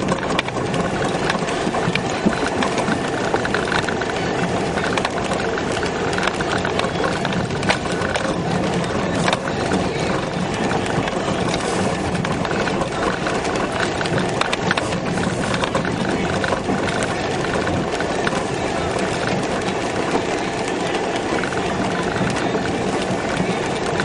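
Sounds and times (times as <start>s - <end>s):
car engine running: 0.0s - 24.0s
suspension knocks and rattles: 0.0s - 24.0s.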